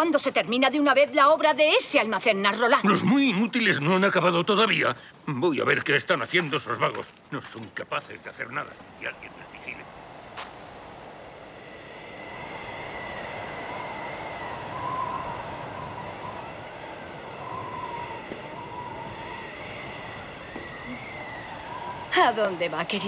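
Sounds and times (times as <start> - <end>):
wind howling: 0.0 - 23.0.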